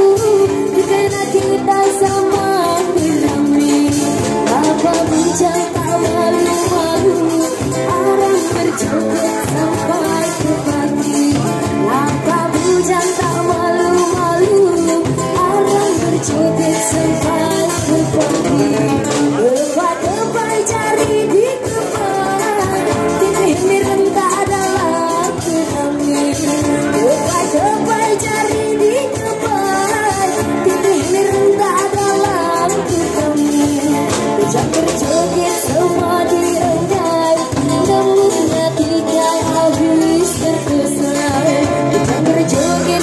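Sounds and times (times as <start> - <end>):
guitar: 0.0 - 43.0
person singing: 0.0 - 43.0.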